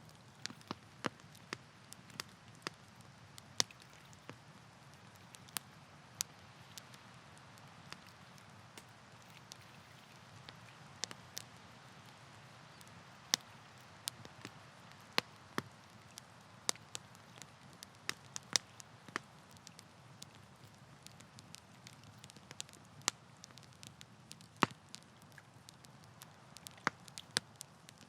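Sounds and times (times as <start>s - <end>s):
wood campfire crackling: 0.0s - 28.0s
fire pops and snaps: 0.1s - 7.0s, 7.6s - 9.7s, 10.3s - 28.0s.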